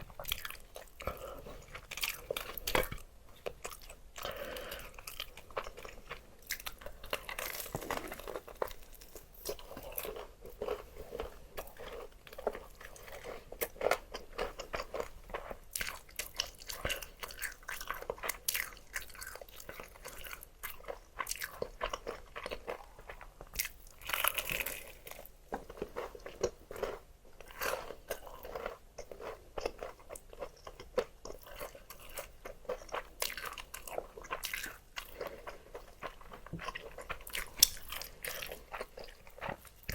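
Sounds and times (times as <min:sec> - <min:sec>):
crunchy chewing: 0:00.1 - 0:39.9.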